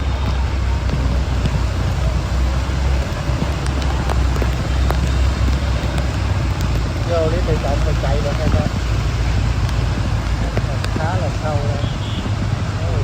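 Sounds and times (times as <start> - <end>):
faint clicks: 0.0 - 11.5
rain hiss: 0.0 - 13.0
vehicle engine rumble: 0.0 - 13.0.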